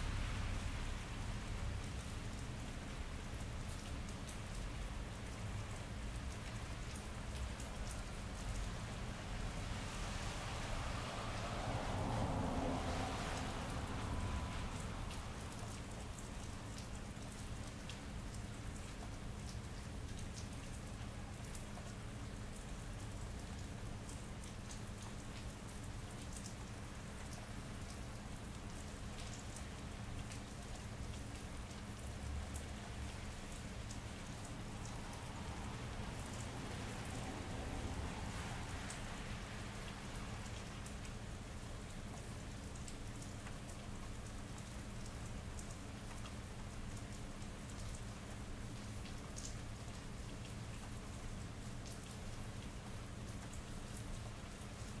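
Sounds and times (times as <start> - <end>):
rain on pavement: 0.0 - 55.0.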